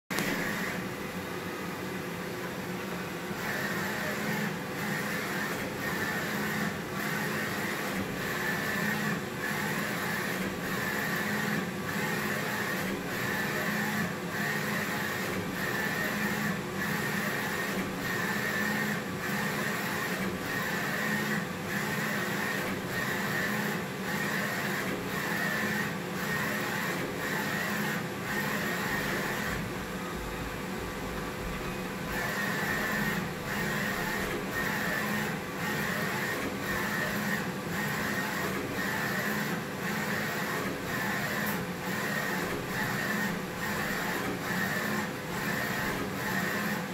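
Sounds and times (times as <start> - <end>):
printer carriage shuttling and whirring: 0.1 - 1.3, 2.4 - 46.9.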